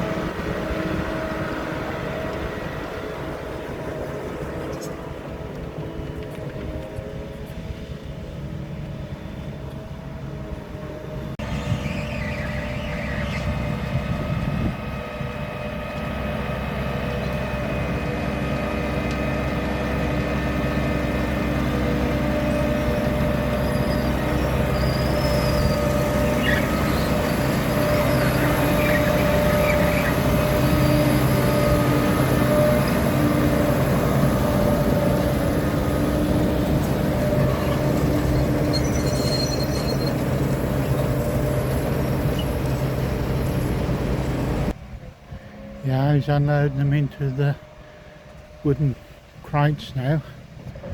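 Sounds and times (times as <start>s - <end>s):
harvester machine drone: 0.0s - 50.9s.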